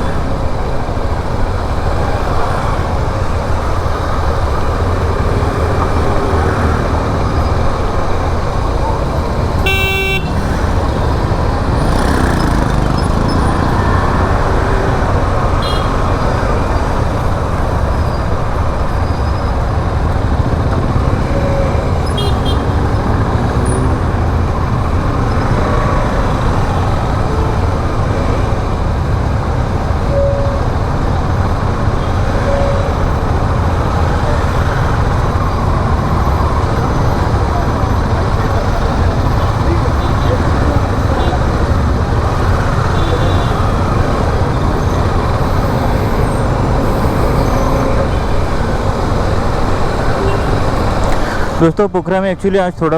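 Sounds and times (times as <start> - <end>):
motorcycle road noise: 0.0 - 52.0.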